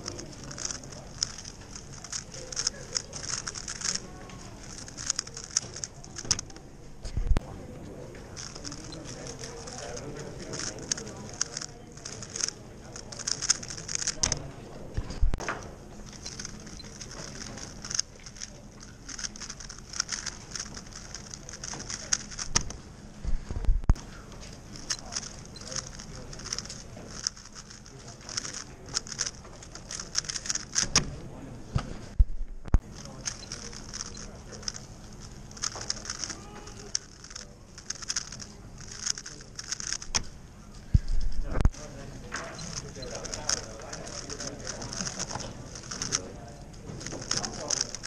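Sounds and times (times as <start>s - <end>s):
puzzle cube plastic clicks: 0.0s - 6.6s, 8.4s - 14.5s, 15.4s - 22.8s, 24.7s - 31.1s, 32.7s - 40.4s, 42.4s - 46.3s, 47.0s - 48.0s.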